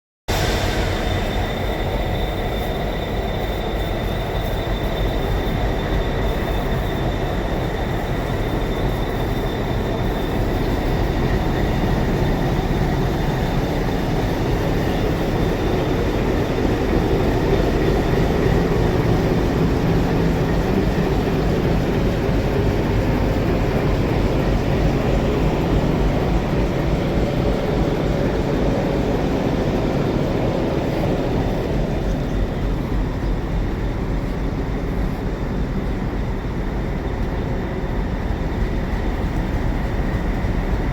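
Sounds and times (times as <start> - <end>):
diesel locomotive engine rumbling: 0.3 - 40.9
faint high whine: 0.3 - 40.9.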